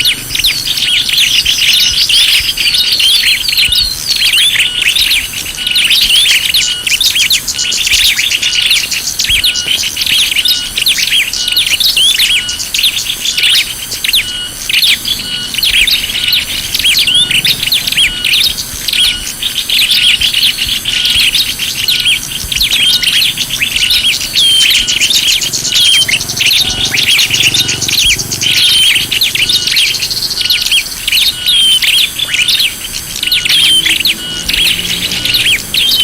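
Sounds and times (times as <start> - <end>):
small birds chirping chorus: 0.0 - 36.0.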